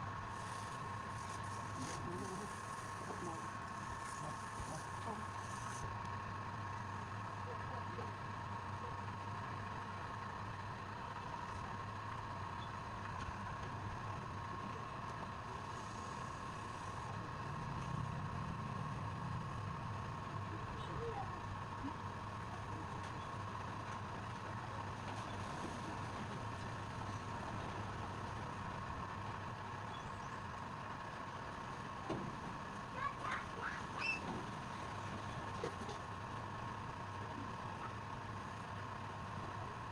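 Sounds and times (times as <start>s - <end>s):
steady motor hum: 0.0s - 39.9s.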